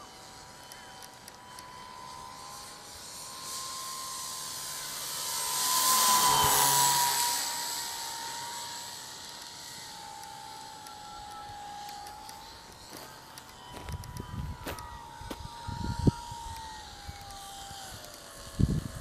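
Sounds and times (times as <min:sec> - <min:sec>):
model airplane motor whining: 0:00.0 - 0:19.0.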